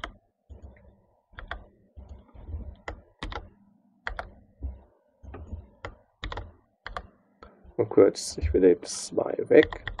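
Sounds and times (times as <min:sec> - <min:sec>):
keyboard typing: 0:00.0 - 0:07.6, 0:09.6 - 0:10.0.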